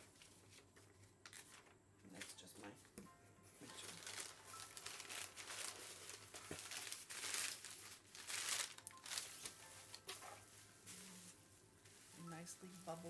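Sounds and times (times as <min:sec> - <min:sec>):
bubble wrap crinkling and rustling: 0:00.0 - 0:03.0, 0:03.6 - 0:13.0.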